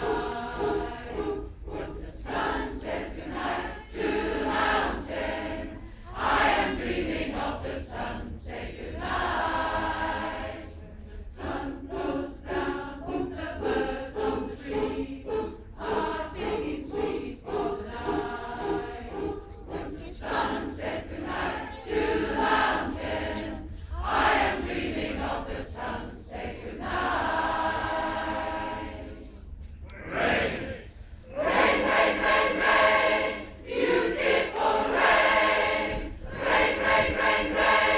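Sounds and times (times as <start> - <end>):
large choir singing: 0.0 - 37.9.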